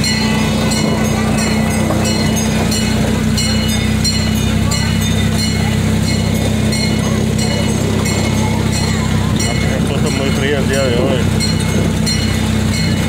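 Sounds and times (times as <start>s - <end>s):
miniature train humming on track: 0.0s - 13.0s
regular clicking of train: 0.0s - 13.0s.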